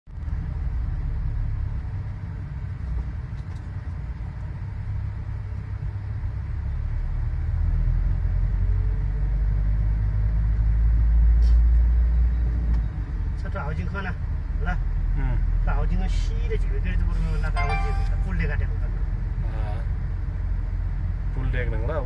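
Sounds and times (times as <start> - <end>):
road vehicle rumble: 0.0 - 22.0.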